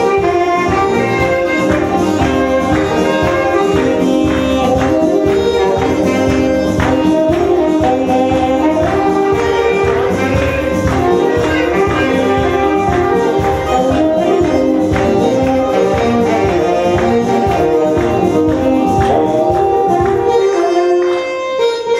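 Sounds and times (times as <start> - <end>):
steady percussion beat: 0.0 - 21.2
electronic keyboard accompaniment: 0.0 - 21.9
saxophone melody: 0.0 - 21.9.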